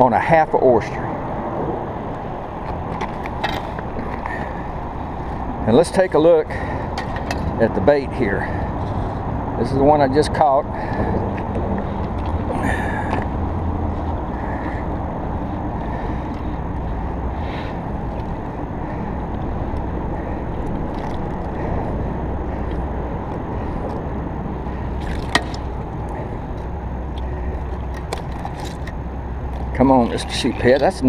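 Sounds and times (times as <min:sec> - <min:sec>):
low rumbling background noise: 0:00.0 - 0:31.0.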